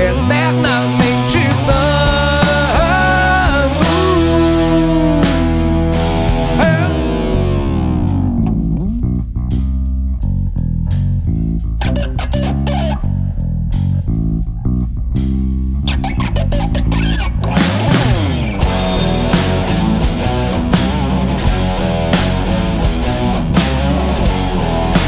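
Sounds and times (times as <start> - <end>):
bass guitar: 0.0 - 25.0
drum kit: 0.0 - 25.0
electric guitar bending notes: 0.0 - 25.0.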